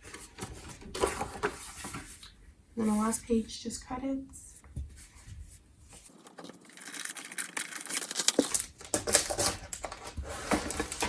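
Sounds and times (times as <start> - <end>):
paper rustling and tapping: 0.0 - 3.3, 4.6 - 7.0, 7.8 - 11.0.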